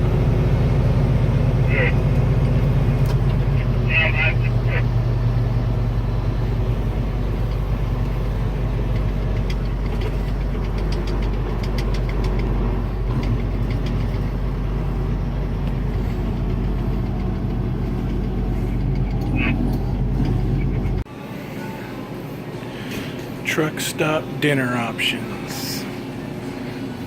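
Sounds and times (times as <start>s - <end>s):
diesel truck engine running: 0.0s - 21.4s, 22.1s - 27.0s.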